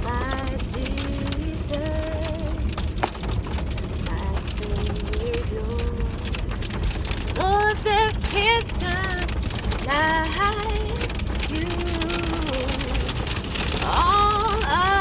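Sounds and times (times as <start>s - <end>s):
woman singing wordless melody: 0.0s - 3.2s, 4.1s - 6.6s, 7.3s - 15.0s
car driving rumble: 0.0s - 15.0s
rain on car roof: 0.0s - 15.0s.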